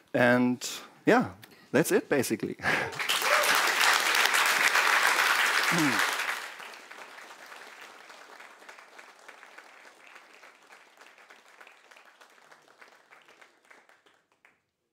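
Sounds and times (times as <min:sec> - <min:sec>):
audience applauding: 0:02.7 - 0:14.7.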